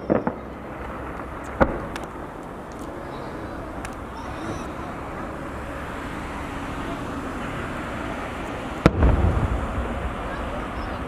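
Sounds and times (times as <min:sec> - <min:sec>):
firework bang: 0:00.0 - 0:05.9, 0:06.5 - 0:11.0
background noise: 0:00.0 - 0:11.0
deep rumble: 0:00.0 - 0:11.0.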